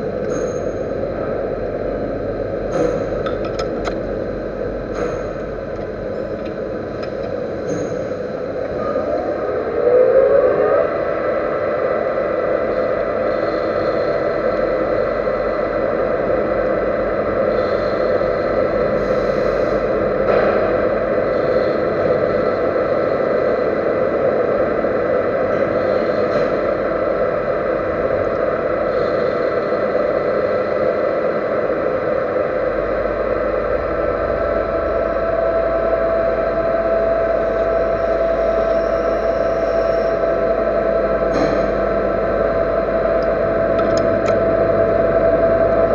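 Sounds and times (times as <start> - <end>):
lathe running with whining tones: 0.0 - 45.9
low hum: 0.0 - 45.9.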